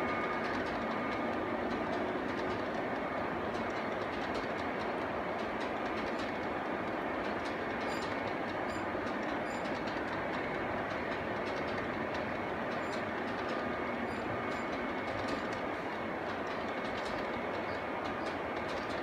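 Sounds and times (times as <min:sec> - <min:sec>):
model train wheels rumbling on rails: 0:00.0 - 0:19.0
wheels clicking over rail joints: 0:00.3 - 0:19.0.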